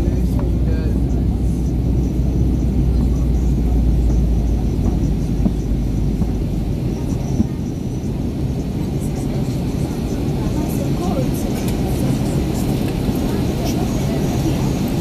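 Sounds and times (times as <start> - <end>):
jet engine rumble in cabin: 0.0 - 15.0
rushing airflow: 0.0 - 15.0.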